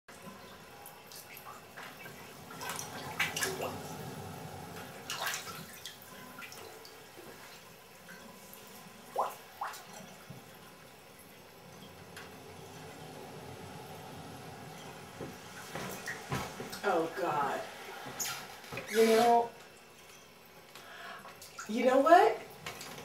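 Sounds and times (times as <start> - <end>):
water splashing: 0.1 - 20.0
bathtub water dripping: 0.1 - 23.0.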